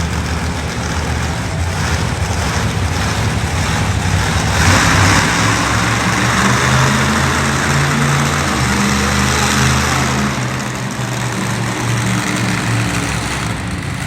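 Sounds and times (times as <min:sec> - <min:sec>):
monster truck engine running: 0:00.0 - 0:14.0.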